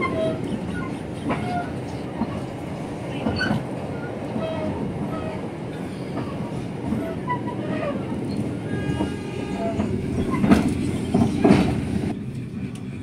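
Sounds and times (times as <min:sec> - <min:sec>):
loud train clanks: 0:00.0 - 0:13.0
train rumbling on rails: 0:00.0 - 0:13.0.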